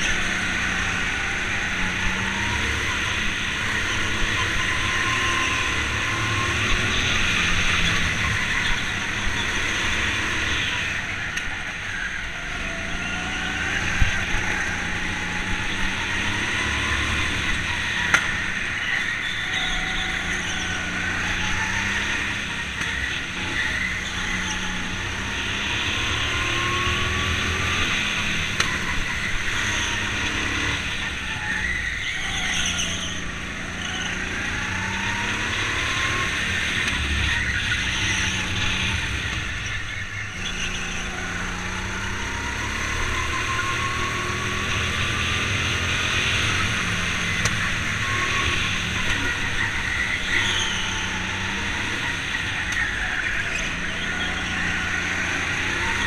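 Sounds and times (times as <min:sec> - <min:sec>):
go-kart motor accelerating: 0:00.0 - 0:56.0.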